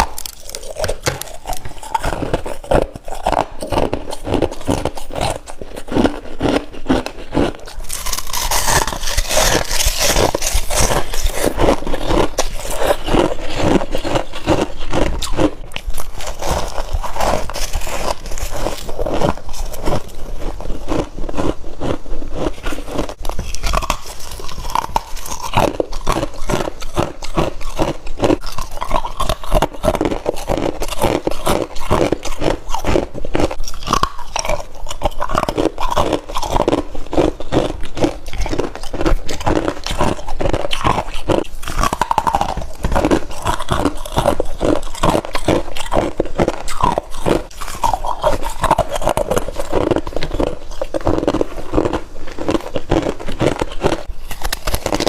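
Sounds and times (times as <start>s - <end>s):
crunchy chewing of frost: 0.0s - 55.0s.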